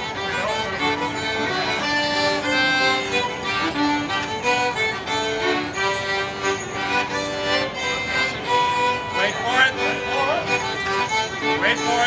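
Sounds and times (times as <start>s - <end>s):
fiddles and accordion folk tune: 0.0s - 12.0s.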